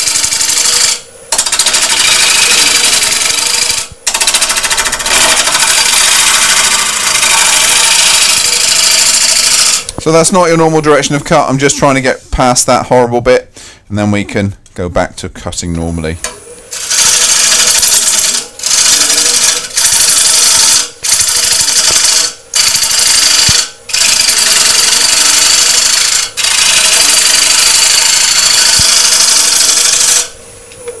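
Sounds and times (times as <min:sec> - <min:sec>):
lathe motor hum: 0:00.0 - 0:12.2, 0:16.2 - 0:31.0.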